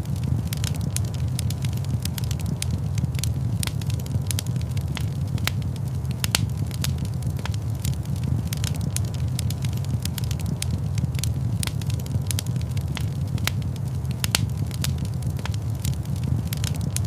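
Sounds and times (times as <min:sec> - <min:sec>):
fire crackling in fireplace: 0:00.0 - 0:17.0.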